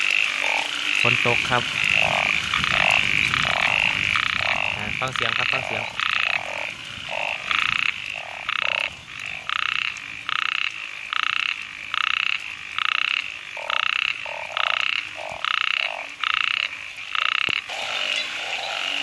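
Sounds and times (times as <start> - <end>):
frog rattling croaks: 0.0 - 19.0
second frog calling lower: 0.0 - 19.0.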